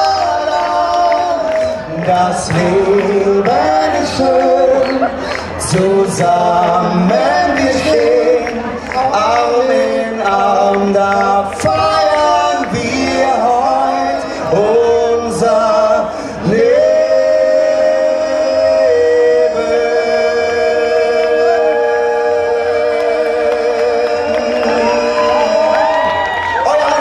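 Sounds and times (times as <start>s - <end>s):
a cappella group singing harmony: 0.0s - 27.0s.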